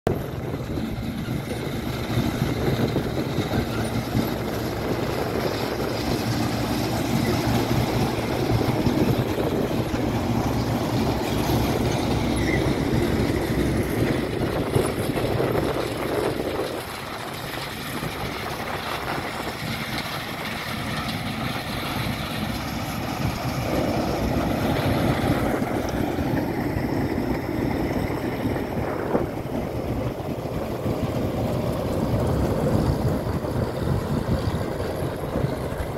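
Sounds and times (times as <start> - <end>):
combine harvester engine and threshing: 0.1 - 35.9.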